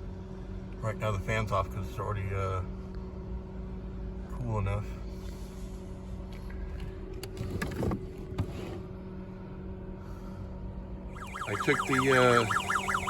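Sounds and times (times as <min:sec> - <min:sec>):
constant rumble: 0:00.0 - 0:13.0.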